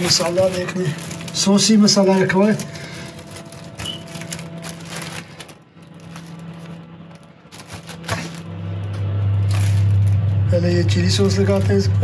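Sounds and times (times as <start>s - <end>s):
food handling on plastic sheet: 0.0s - 10.3s, 11.1s - 12.0s
loud low hum: 0.0s - 12.0s
steady low hum: 0.0s - 12.0s.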